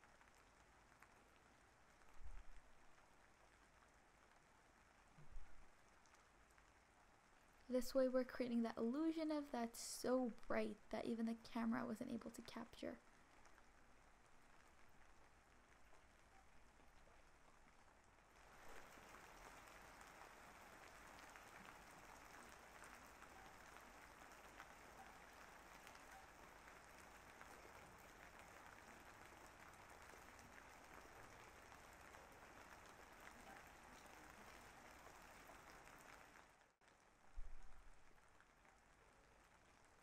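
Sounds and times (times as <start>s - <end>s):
faint steady rain: 0.0s - 40.0s.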